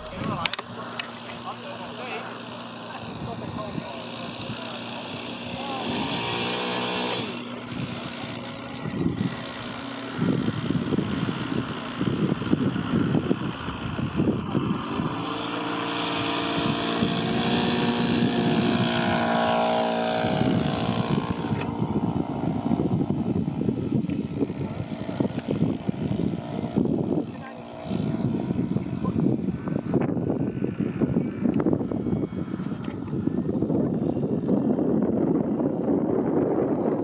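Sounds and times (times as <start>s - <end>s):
model aircraft engine running: 0.0s - 37.0s.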